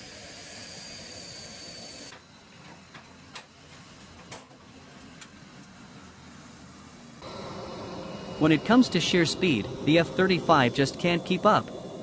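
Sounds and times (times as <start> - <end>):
jet engine hiss and whine: 0.0 - 12.0.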